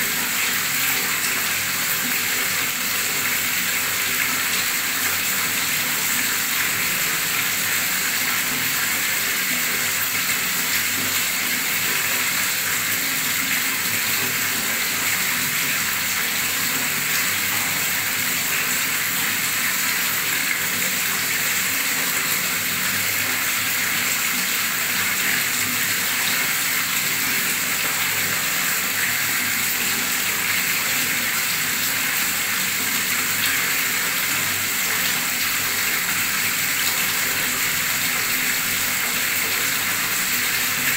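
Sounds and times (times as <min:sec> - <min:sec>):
water pouring from a tap: 0:00.0 - 0:40.9.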